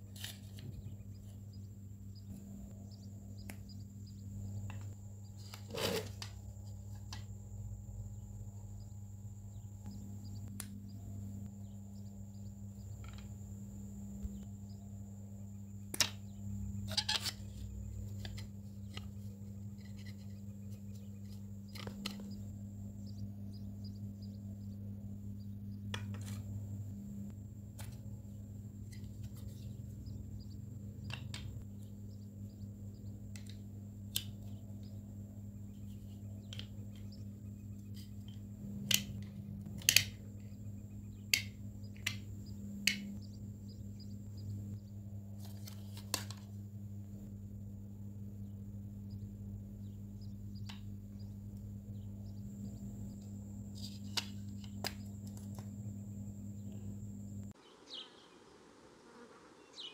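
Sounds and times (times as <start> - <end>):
low hum: 0.0 - 57.6.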